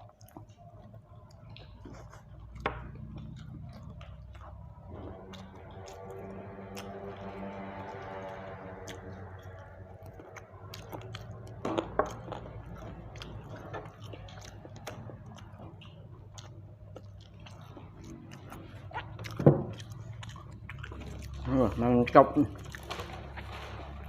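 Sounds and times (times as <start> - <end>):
person chewing: 0.0 - 24.0.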